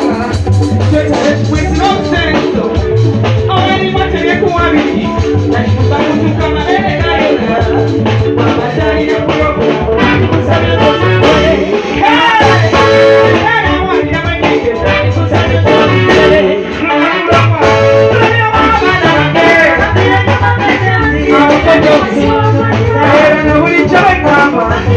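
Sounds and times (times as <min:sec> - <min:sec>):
person singing: 0:00.0 - 0:24.9
repeating bass line: 0:00.0 - 0:24.9.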